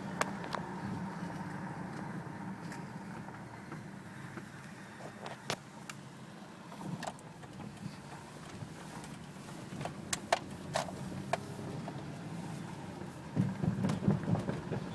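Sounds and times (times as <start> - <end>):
car engine humming: 0.0 - 14.9.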